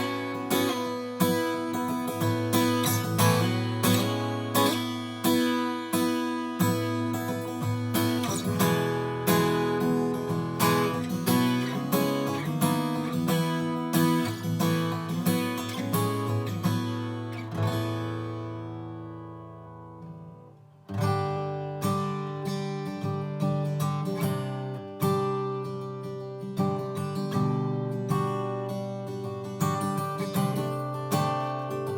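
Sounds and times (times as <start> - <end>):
acoustic guitar strumming chords: 0.0 - 31.9.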